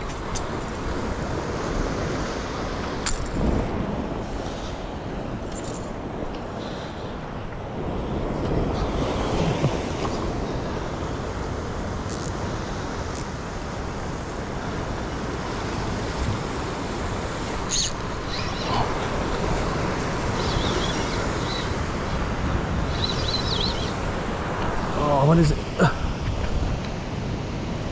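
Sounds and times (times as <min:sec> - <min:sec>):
ocean waves washing: 0:00.0 - 0:27.9.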